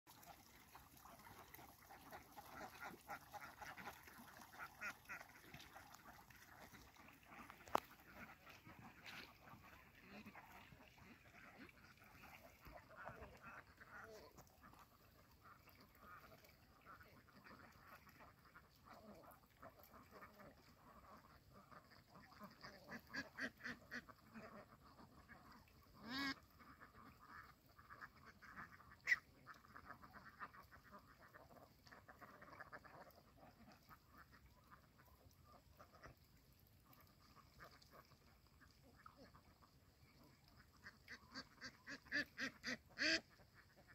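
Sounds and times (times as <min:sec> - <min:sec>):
ducks quacking: 0:00.1 - 0:43.9.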